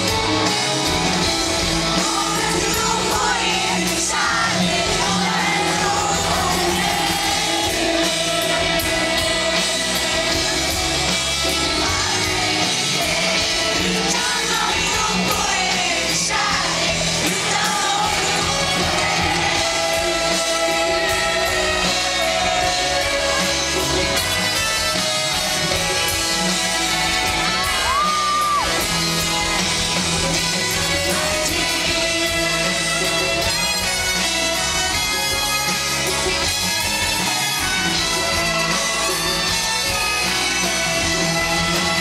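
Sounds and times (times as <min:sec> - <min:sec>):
live rock band playing: 0:00.0 - 0:42.0
male lead singer: 0:00.0 - 0:42.0.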